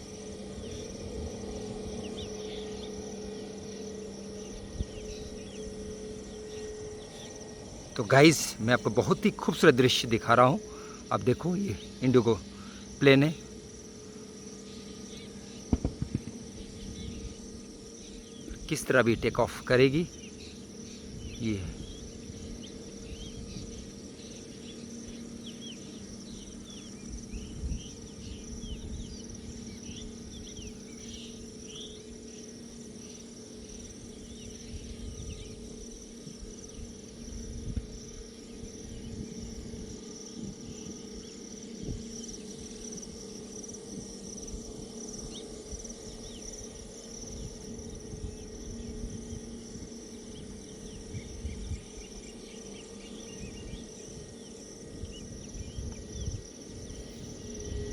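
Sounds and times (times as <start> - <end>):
high insect buzz: 0.0 - 57.9.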